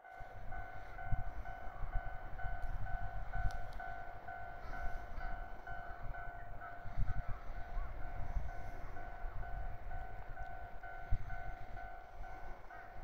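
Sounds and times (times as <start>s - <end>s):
level crossing warning bell: 0.0s - 13.0s
low uneven rumble: 0.1s - 13.0s.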